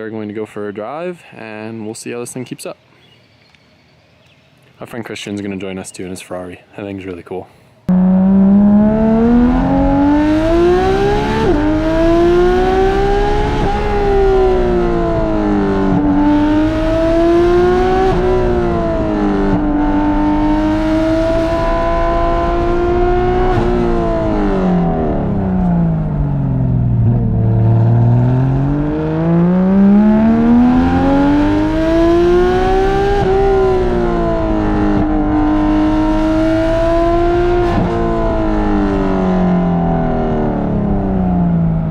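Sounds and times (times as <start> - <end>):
sports car engine revving: 7.9 - 41.9.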